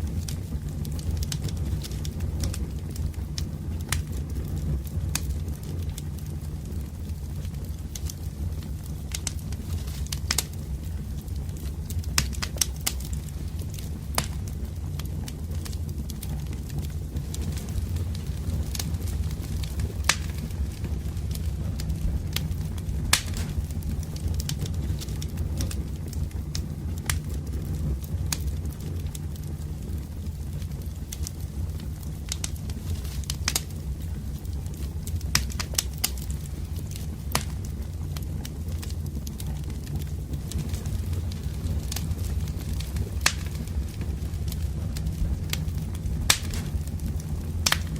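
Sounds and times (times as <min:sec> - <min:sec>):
campfire crackles and pops: 0:00.0 - 0:47.9
low rumble of flames: 0:00.0 - 0:47.9.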